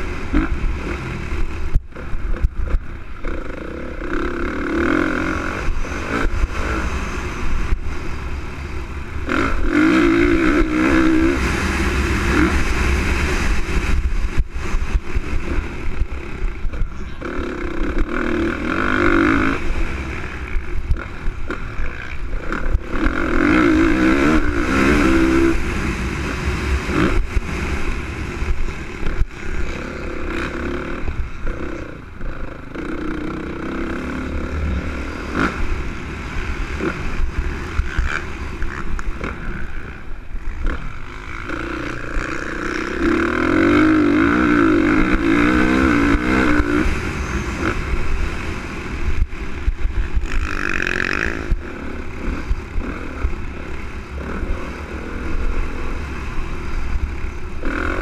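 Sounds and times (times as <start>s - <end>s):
motocross engine revving: 0.0s - 58.0s
wind rumble on microphone: 0.0s - 58.0s.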